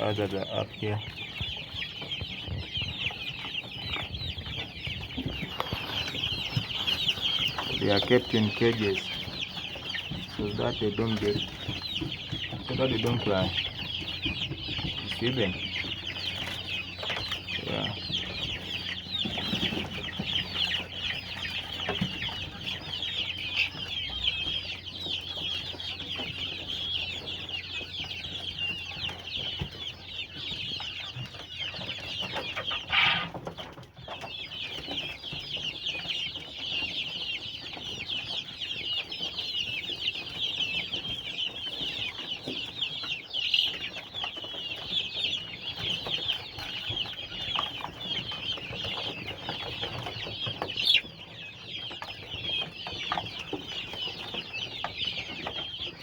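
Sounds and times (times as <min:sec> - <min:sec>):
quails chirping: 0:00.0 - 0:56.0.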